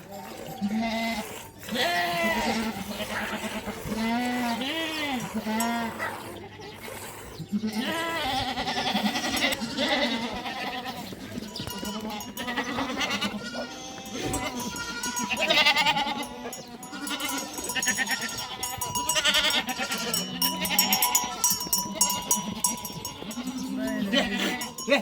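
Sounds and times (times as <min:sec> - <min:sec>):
goats and sheep bleating: 0:00.0 - 0:25.0.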